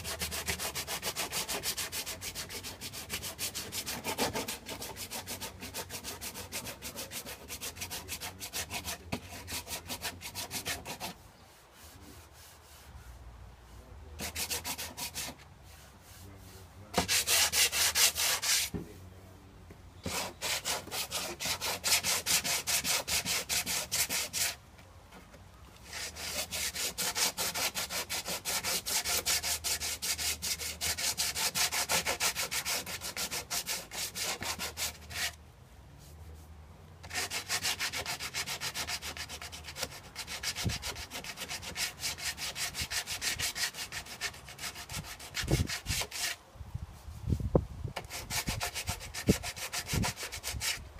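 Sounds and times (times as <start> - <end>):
sandpaper rubbing on car panel: 0.0 - 13.0, 14.2 - 18.8, 20.0 - 24.6, 25.9 - 35.4, 37.1 - 46.4, 48.0 - 50.8.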